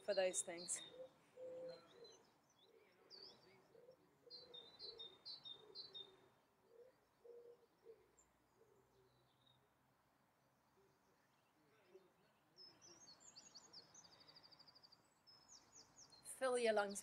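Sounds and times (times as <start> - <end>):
bird chirping: 0.0 - 9.8, 10.6 - 17.0
faint birdsong: 0.0 - 17.0.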